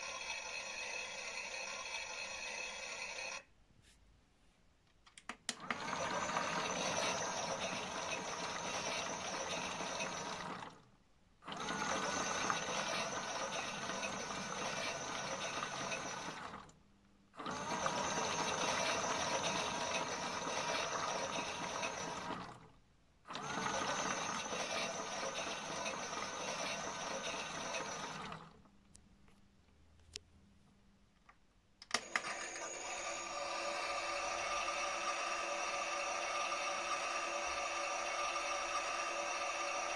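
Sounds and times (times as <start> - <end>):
small electric motor whirring: 0.0 - 3.5, 5.6 - 10.8, 11.5 - 16.7, 17.4 - 22.7, 23.3 - 28.6, 31.9 - 39.9.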